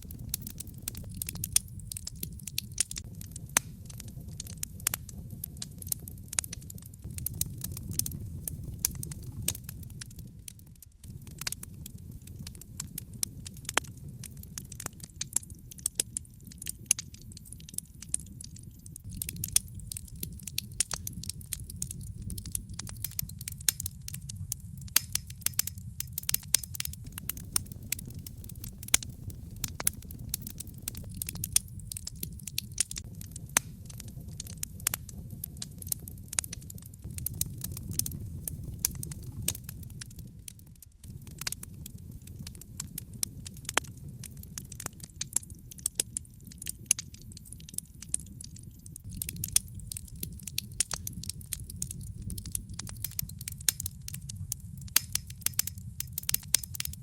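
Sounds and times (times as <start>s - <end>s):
log fire crackling and popping: 0.0s - 57.0s
low rumble of flames: 0.0s - 57.0s.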